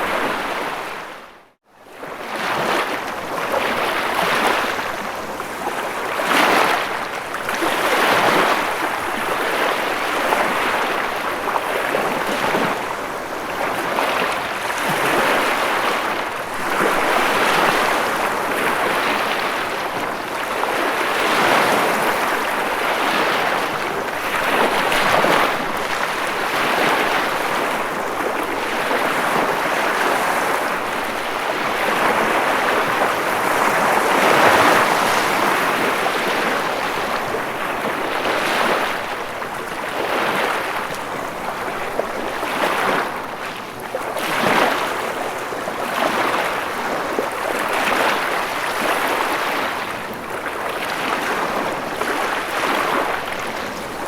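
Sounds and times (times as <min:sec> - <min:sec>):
ocean waves breaking: 0:02.0 - 0:54.0.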